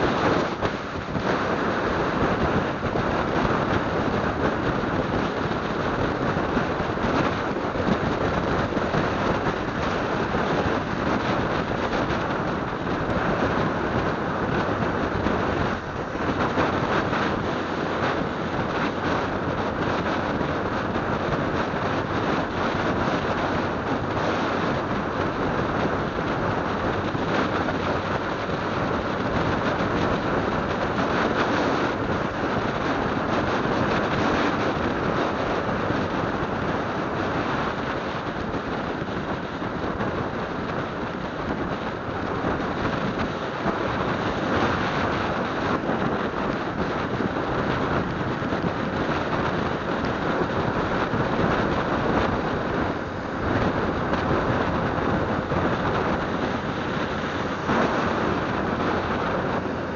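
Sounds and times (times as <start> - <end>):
road noise: 0.0 - 59.9
wind rush over microphone: 0.0 - 59.9.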